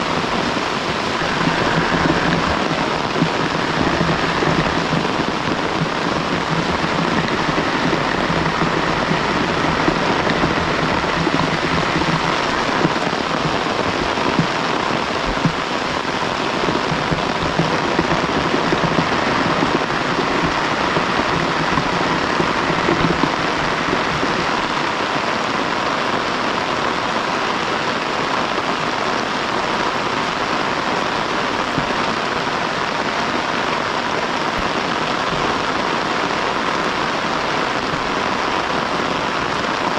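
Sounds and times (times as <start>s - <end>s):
heavy rain falling: 0.0s - 39.9s
louder raindrop hits: 0.0s - 39.9s.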